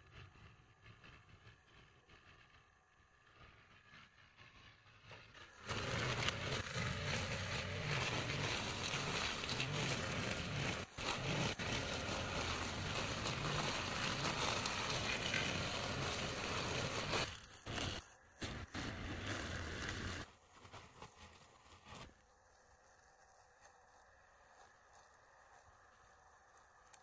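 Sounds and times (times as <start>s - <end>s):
brush cutter engine cutting grass: 5.4s - 27.0s.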